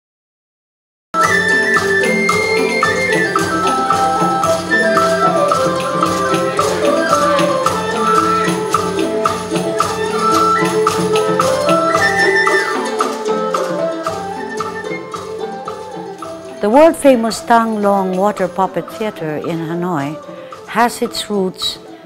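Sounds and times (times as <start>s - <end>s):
percussion strikes: 1.2s - 22.0s
traditional instrumental melody: 1.2s - 22.0s.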